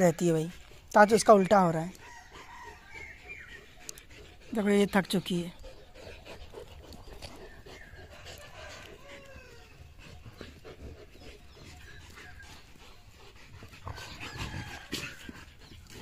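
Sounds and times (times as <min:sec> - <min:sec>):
dogs panting: 0:00.0 - 0:16.0
dogs whining: 0:02.0 - 0:04.5, 0:05.6 - 0:16.0.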